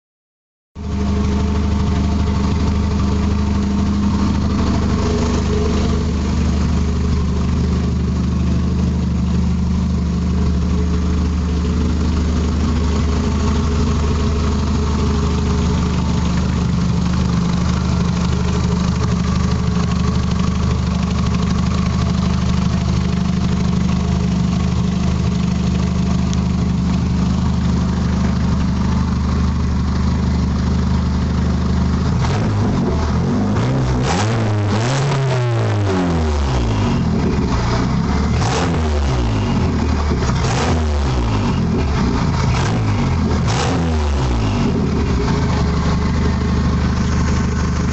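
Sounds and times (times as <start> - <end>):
car engine idling: 0.8 - 47.9.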